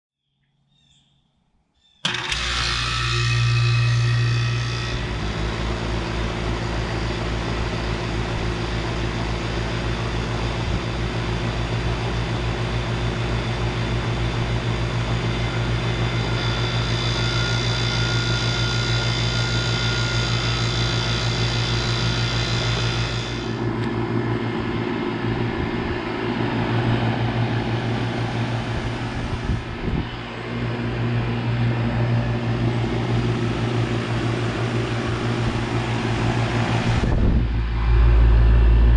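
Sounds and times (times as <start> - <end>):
compressor low hum: 2.0 - 38.9
condenser fan rushing: 2.0 - 38.9.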